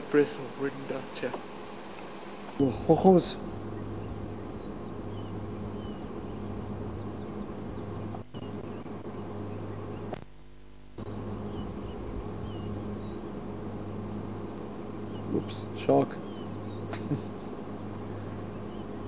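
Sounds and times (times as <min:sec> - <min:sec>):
low hum: 0:00.0 - 0:19.0
faint bird chirps: 0:02.6 - 0:10.2, 0:11.0 - 0:19.0.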